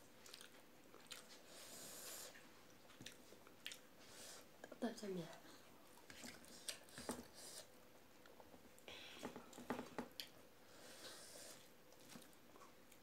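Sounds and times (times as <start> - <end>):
soft chewing and mouth smacks: 0.0 - 13.0.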